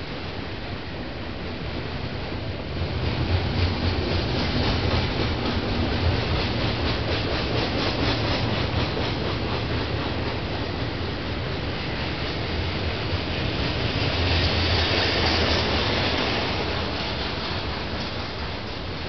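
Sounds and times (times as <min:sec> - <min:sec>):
freight train wheels rumbling: 0:00.0 - 0:19.0
train wheels clattering: 0:03.0 - 0:19.0.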